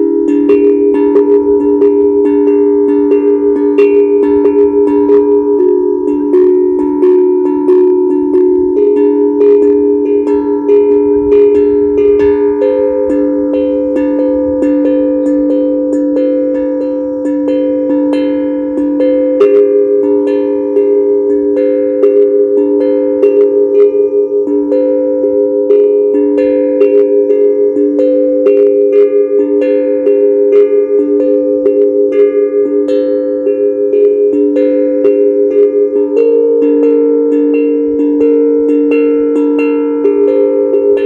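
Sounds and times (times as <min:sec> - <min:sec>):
steel tongue drum melody: 0:00.0 - 0:41.0.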